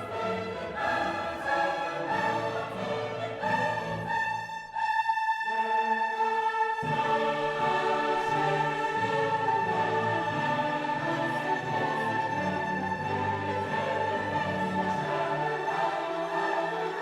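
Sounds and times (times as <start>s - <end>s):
background music of held notes: 0.0s - 17.0s.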